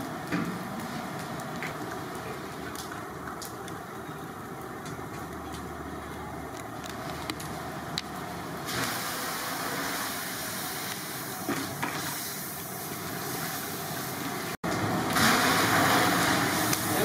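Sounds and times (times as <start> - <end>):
cooking pot steaming hiss: 0.0 - 17.0.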